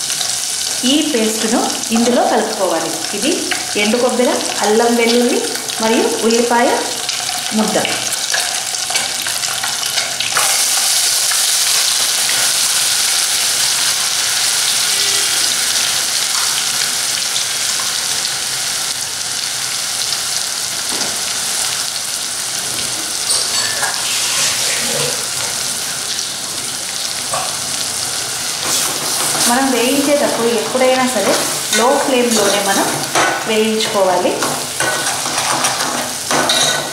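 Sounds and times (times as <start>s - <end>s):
oil sizzling in metal pot: 0.0s - 36.9s.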